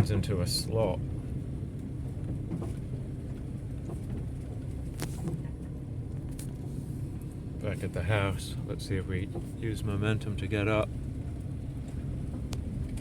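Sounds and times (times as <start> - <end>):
van engine rumbling: 0.0 - 13.0.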